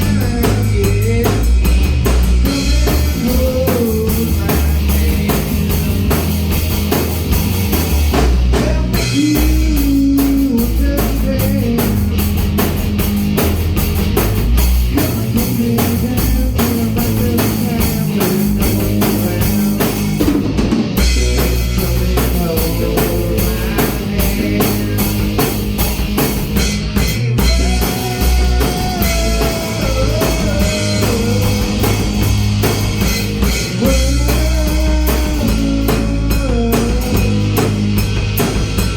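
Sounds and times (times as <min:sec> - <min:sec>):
drum kit beat: 0:00.0 - 0:38.9.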